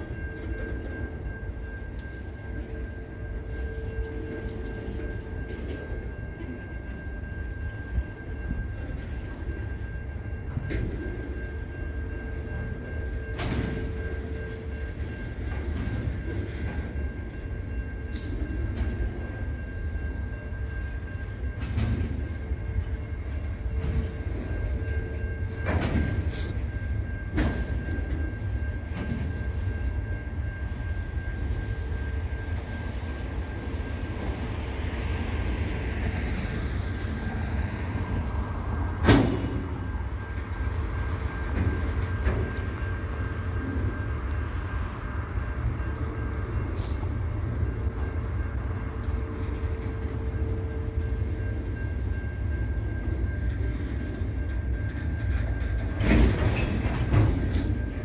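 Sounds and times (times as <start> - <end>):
freight train rumbling: 0.0 - 58.0
train clanks and wheel clicks: 0.0 - 58.0.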